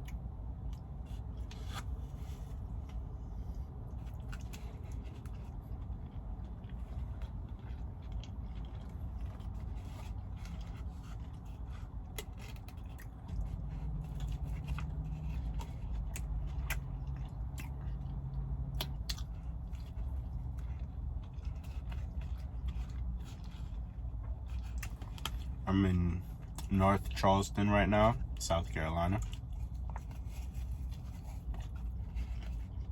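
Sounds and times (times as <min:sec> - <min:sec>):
chewing and biting burger: 0:00.0 - 0:32.9
low steady rumble: 0:00.0 - 0:32.9.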